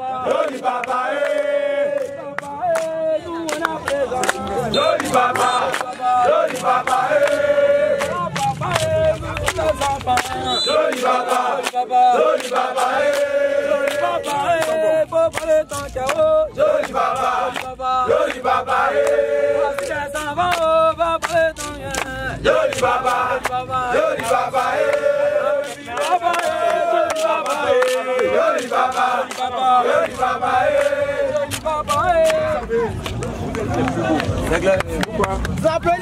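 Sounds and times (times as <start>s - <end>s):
men chanting a song: 0.0s - 35.0s
hand claps: 0.4s - 36.0s.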